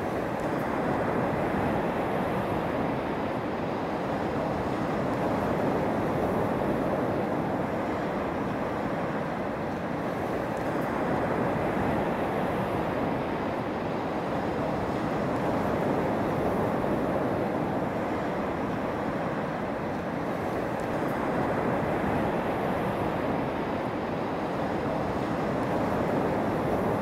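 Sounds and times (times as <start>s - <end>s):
surf washing up a beach: 0.0s - 27.0s
wind: 0.0s - 27.0s.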